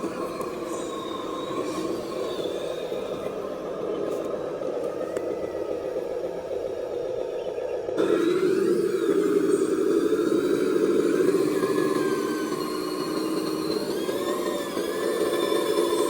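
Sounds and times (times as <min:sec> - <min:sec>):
toy truck motor droning: 0:00.0 - 0:16.0.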